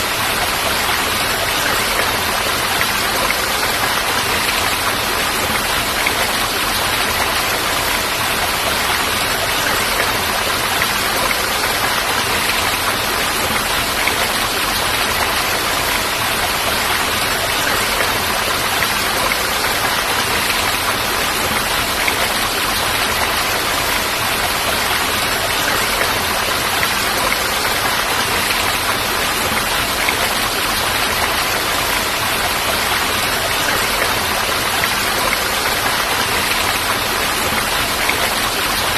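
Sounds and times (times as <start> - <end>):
rush of falling water: 0.0 - 38.9.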